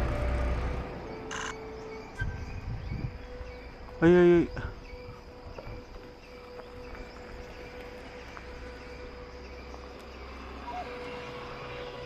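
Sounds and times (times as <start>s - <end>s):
faint insect drone: 0.0s - 12.0s.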